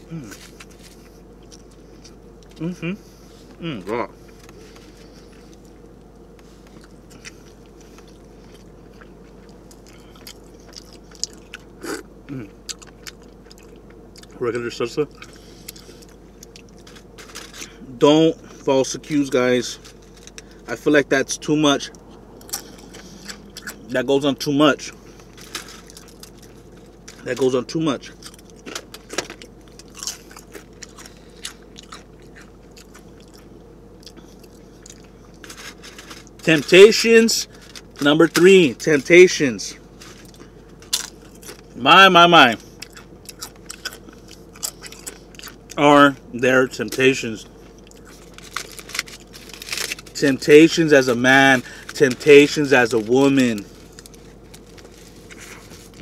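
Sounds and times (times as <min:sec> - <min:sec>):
chewing and crunching chips: 0:00.0 - 0:02.8, 0:03.4 - 0:56.0
steady low hum: 0:00.0 - 0:56.0.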